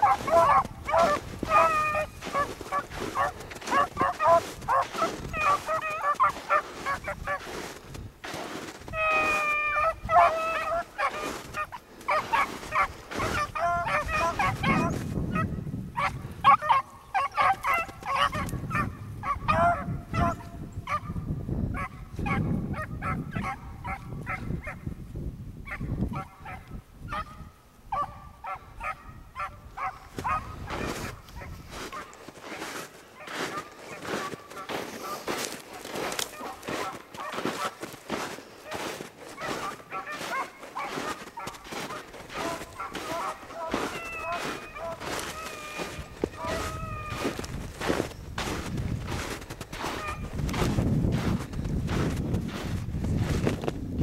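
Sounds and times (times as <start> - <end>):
dogs baying: 0.0 - 7.4, 9.0 - 21.2, 21.8 - 24.8, 25.7 - 47.4, 49.8 - 50.3.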